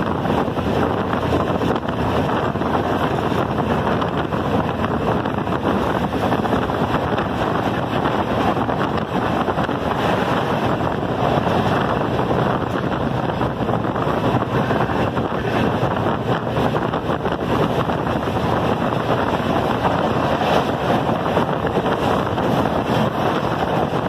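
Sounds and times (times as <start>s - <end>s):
moving train rushing: 0.0s - 24.0s
wind on microphone: 0.0s - 24.0s.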